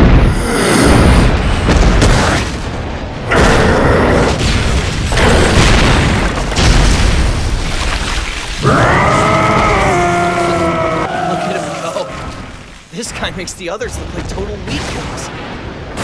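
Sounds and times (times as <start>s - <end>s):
heavy booms and crashes: 0.0s - 11.1s, 12.1s - 16.0s.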